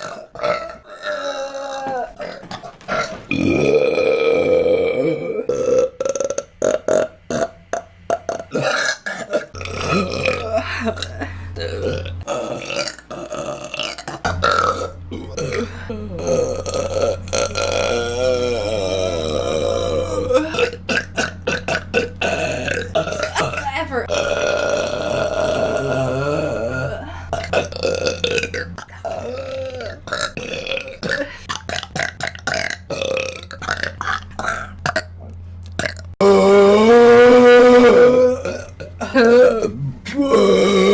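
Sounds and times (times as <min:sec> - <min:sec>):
woman burping: 0:00.0 - 0:40.9.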